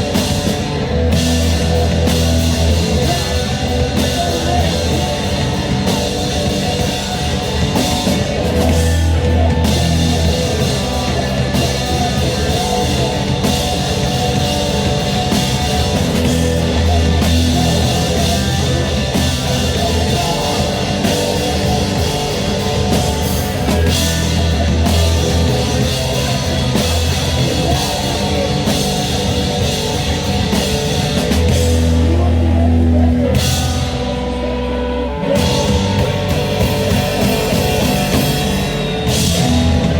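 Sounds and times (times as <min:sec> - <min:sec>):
rock band playing heavy music: 0:00.0 - 0:39.9.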